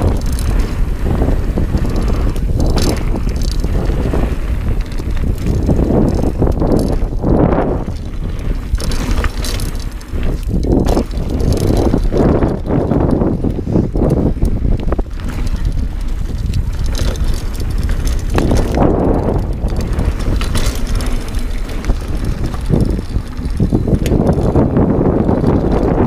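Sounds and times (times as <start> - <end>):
bike clattering over bumps: 0.0 - 26.0
bike tyre noise on dirt: 0.0 - 26.0
wind rumbling on microphone: 0.0 - 26.0.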